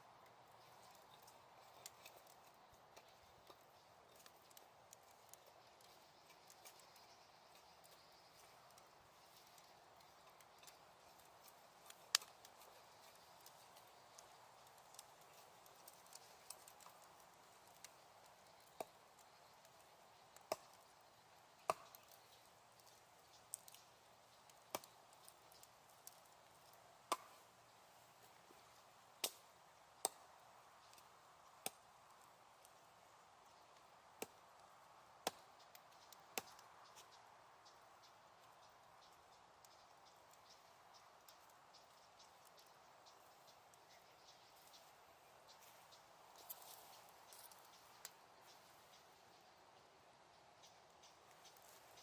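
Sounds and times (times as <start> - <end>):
faint hiss of burning wood: 0.0 - 52.0
fire popping and snapping: 0.2 - 49.1, 50.7 - 52.0.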